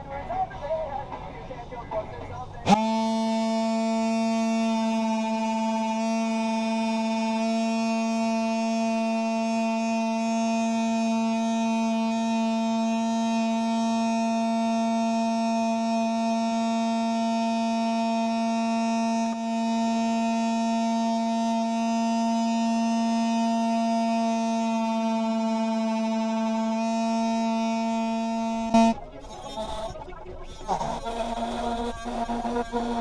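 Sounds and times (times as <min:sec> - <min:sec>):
electric sander humming: 0:02.6 - 0:33.0.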